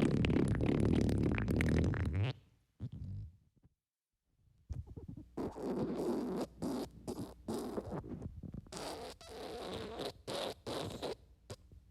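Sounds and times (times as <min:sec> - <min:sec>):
wet flatulence: 0:00.0 - 0:03.4, 0:04.8 - 0:11.2.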